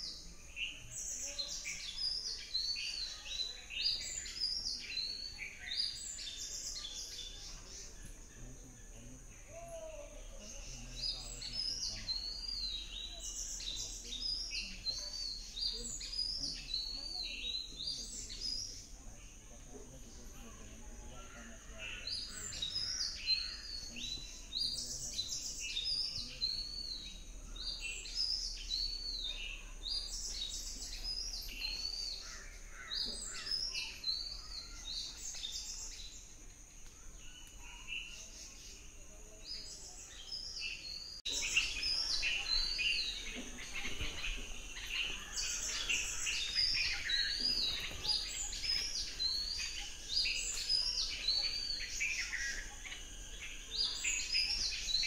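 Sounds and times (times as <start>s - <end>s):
forest birds chirping: 0.0s - 55.0s.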